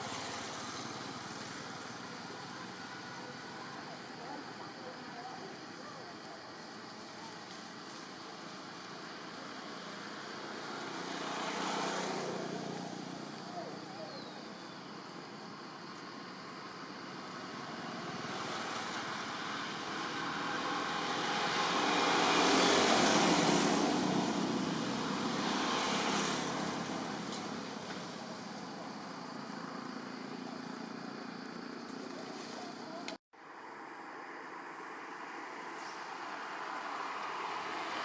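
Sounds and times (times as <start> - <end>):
motor vehicle passing by: 0.0 - 33.2, 35.2 - 38.0.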